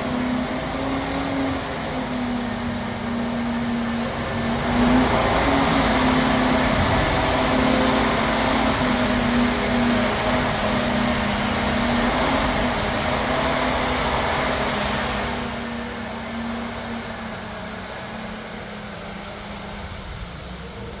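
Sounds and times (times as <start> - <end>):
truck engine hum: 0.0 - 21.0
water hissing: 0.0 - 21.0.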